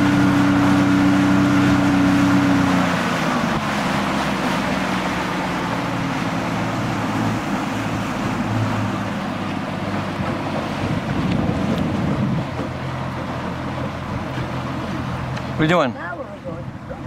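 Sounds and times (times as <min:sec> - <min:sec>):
outboard motor running: 0:00.0 - 0:17.0
rushing water: 0:00.0 - 0:17.0
wind: 0:00.0 - 0:17.0.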